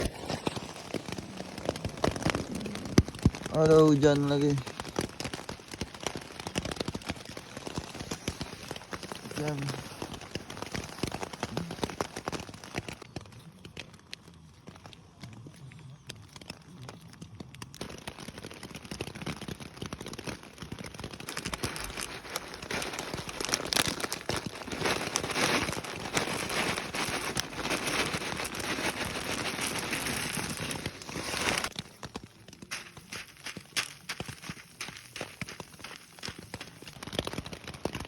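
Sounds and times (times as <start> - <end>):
rain drops crackling: 0.0 - 38.0.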